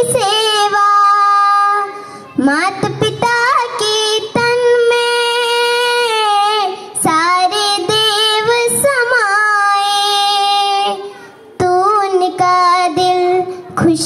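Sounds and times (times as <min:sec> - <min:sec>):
girl singing into a microphone: 0:00.0 - 0:14.0.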